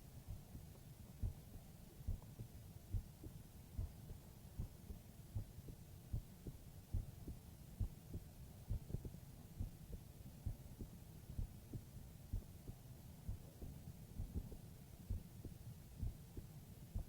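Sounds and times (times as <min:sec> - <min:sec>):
faint steady hum: 0:00.0 - 0:17.0
heartbeat thumps: 0:00.2 - 0:00.6, 0:01.2 - 0:17.0.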